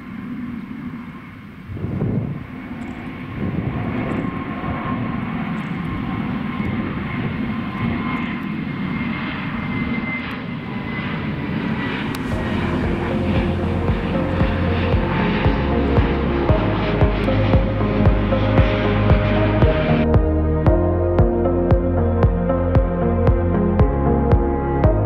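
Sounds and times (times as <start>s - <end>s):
jet airliner taking off: 0.0s - 20.2s.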